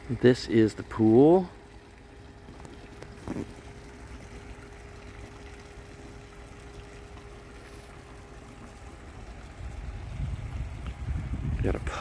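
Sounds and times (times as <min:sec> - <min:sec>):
faint steady hum: 0:00.0 - 0:12.0
water splashing from fountain jets: 0:00.0 - 0:12.0.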